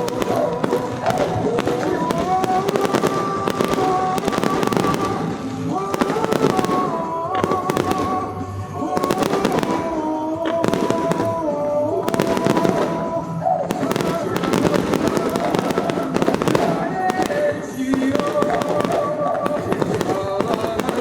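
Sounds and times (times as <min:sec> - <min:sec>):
fireworks bangs and crackles: 0:00.0 - 0:21.0
music with long held notes: 0:00.0 - 0:21.0.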